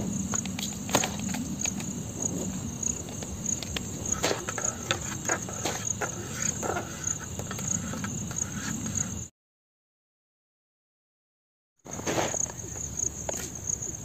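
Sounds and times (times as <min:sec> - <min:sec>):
insects chirping: 0:00.0 - 0:09.3, 0:11.9 - 0:14.0.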